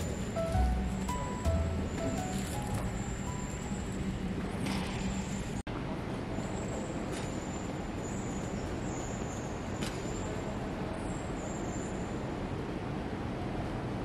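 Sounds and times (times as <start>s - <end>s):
terminal hall hum: 0.0s - 14.0s.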